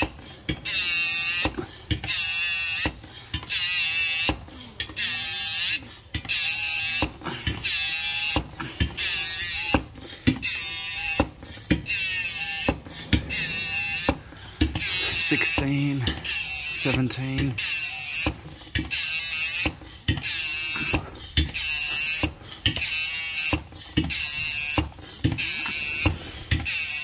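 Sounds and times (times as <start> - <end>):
hand pump buzzing strokes: 0.0 - 27.0.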